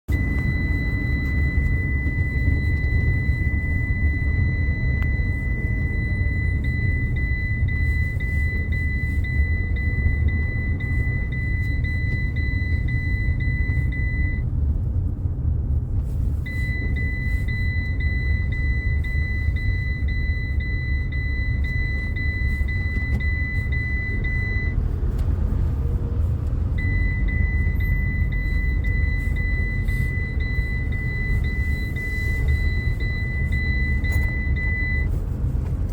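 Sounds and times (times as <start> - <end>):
van engine rumbling: 0.0 - 35.9
seat-belt warning alarm tone: 0.1 - 15.0, 15.9 - 35.9.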